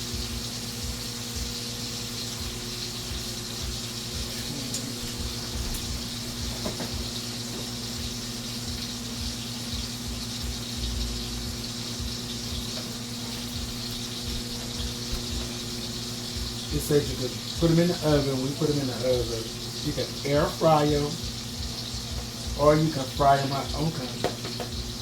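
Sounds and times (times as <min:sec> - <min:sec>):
appliance electrical hum: 0:00.0 - 0:25.0
food sizzling on stovetop: 0:00.0 - 0:25.0.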